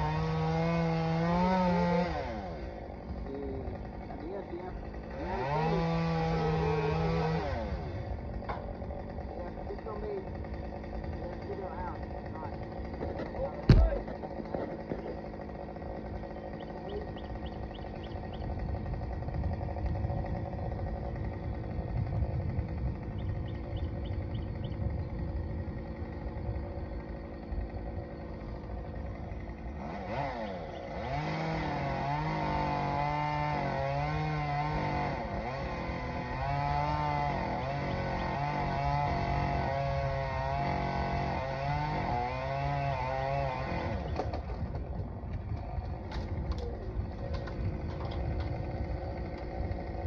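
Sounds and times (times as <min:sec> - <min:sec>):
chainsaw engine revving: 0:00.0 - 0:50.0
low steady rumbling: 0:00.0 - 0:50.0.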